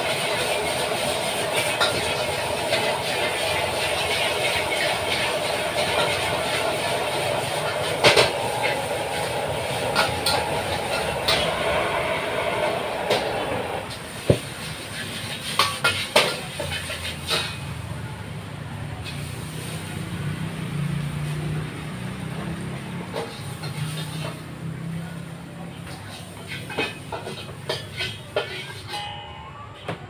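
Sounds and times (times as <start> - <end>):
spatula scraping on wok: 0.0 - 17.9, 18.8 - 21.2, 22.2 - 29.2
gas wok burner rushing: 0.0 - 29.2.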